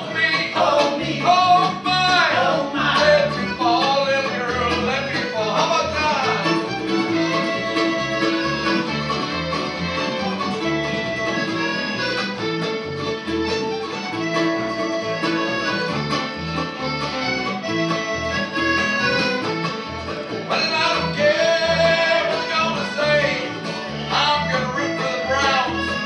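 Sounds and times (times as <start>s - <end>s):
button accordion playing tune: 0.0s - 26.0s
folk band playing: 0.0s - 26.0s
walking bass line: 0.0s - 26.0s.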